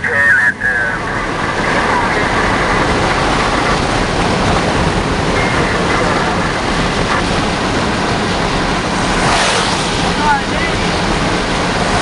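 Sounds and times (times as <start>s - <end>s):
strong wind and rain: 0.0s - 12.0s.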